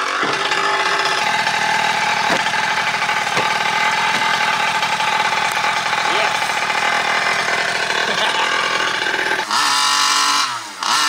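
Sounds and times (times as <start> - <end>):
two-stroke engine idling: 0.0 - 11.0.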